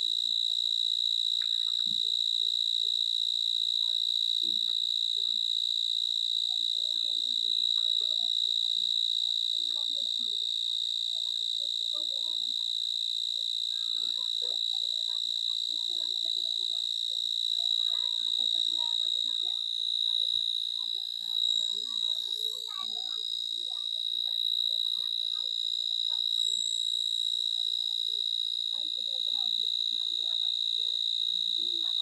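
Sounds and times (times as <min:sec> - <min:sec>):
faint insect chirps: 0:00.0 - 0:32.0
high-pitched insect shrill: 0:00.7 - 0:32.0.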